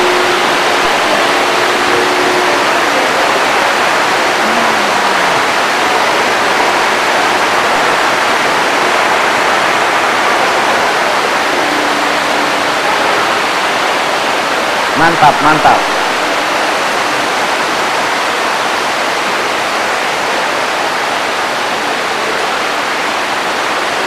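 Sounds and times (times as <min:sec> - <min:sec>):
loud steady rushing noise: 0:00.0 - 0:24.0.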